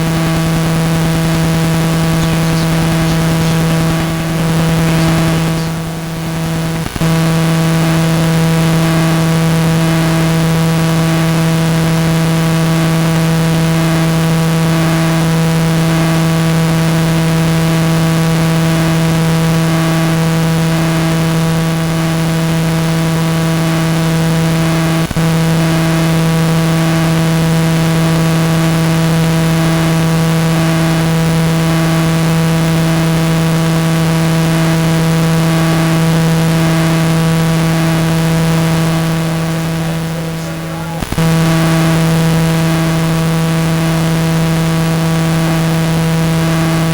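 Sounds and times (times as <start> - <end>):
steady loud buzzing hum: 0.0 - 46.9.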